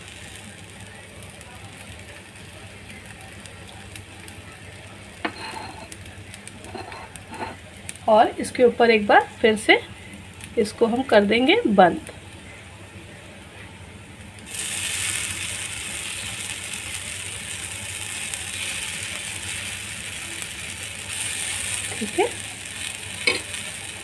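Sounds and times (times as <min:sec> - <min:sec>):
batter sizzling on a hot griddle: 0:00.0 - 0:24.0.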